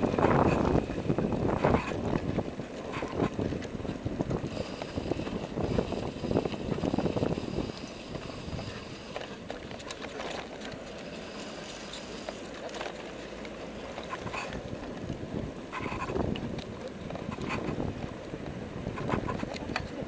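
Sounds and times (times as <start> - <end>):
wind buffeting microphone: 0.0 - 10.9, 13.8 - 20.0
low road rumble: 0.0 - 20.0
bicycle clicks and rattles: 1.6 - 20.0.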